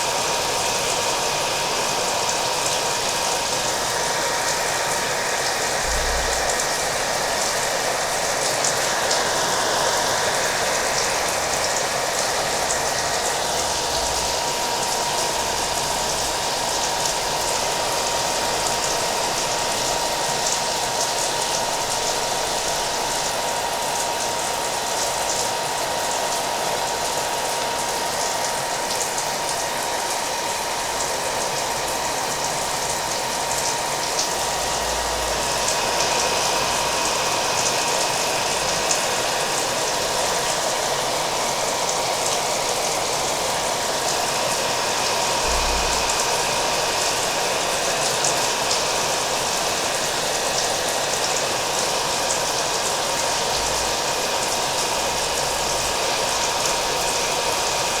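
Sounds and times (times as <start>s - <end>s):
hair dryer whining: 0.0s - 58.0s.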